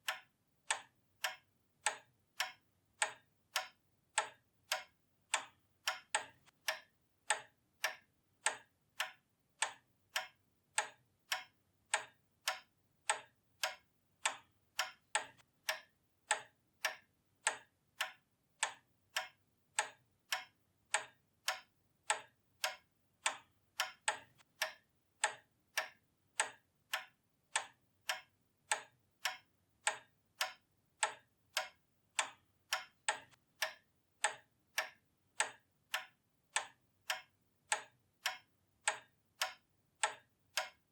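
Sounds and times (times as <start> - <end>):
pendulum clock ticking: 0.0 - 40.9.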